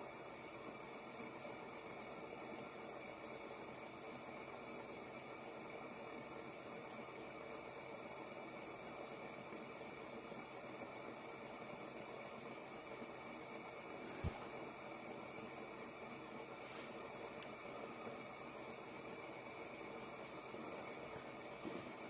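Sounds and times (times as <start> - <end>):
fidget spinner whirring: 0.0 - 22.0.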